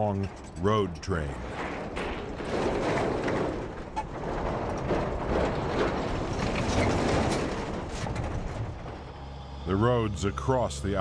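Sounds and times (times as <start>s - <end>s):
rattling and clicking: 0.0s - 9.3s
truck engine rumble: 0.0s - 11.0s.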